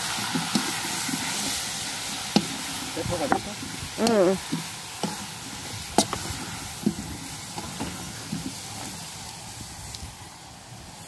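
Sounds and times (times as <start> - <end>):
wooden spatula scraping a pan: 0.0 - 9.3
vegetables sizzling in a wok: 0.0 - 11.0.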